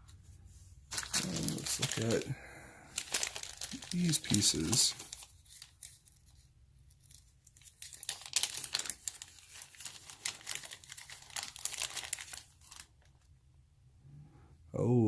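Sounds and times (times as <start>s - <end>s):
plastic packaging crinkling and tearing: 0.9s - 13.3s.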